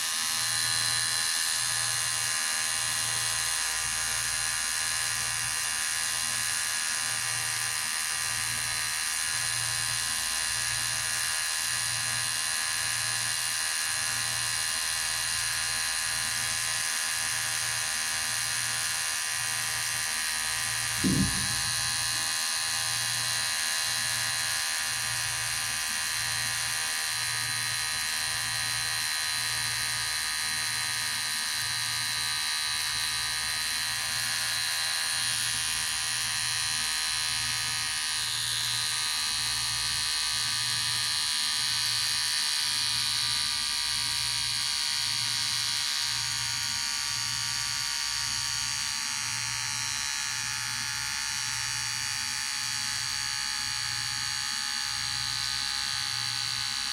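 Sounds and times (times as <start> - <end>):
electric hair clipper buzzing: 0.0 - 56.9.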